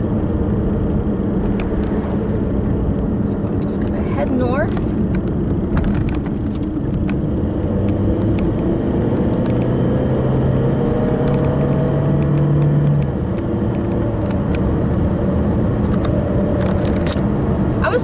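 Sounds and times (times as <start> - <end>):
car engine hum: 0.0 - 18.0
road noise inside car: 0.0 - 18.0.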